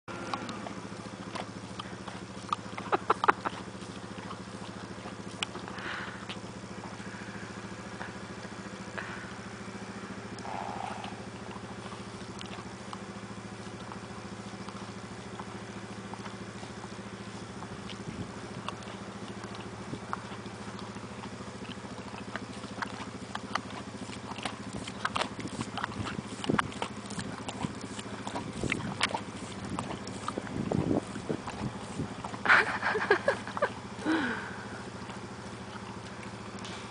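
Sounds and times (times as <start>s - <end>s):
steady low hum: 0.1s - 36.9s
horse mouth wet clicks and smacks: 0.3s - 9.4s, 10.4s - 34.0s, 34.7s - 36.9s.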